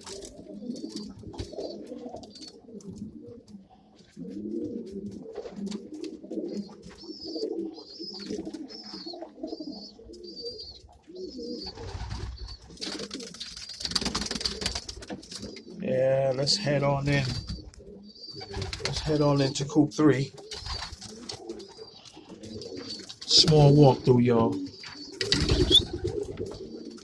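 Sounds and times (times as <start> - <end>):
pigeons cooing: 0.0 - 27.0.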